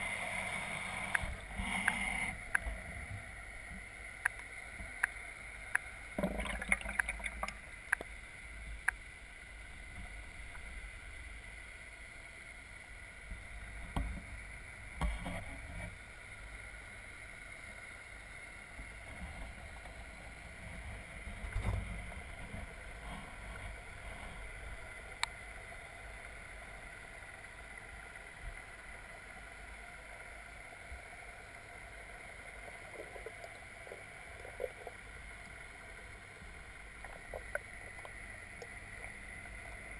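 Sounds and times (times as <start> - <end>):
thin high hum: 0.0 - 39.9
underwater low rumble: 0.0 - 39.9.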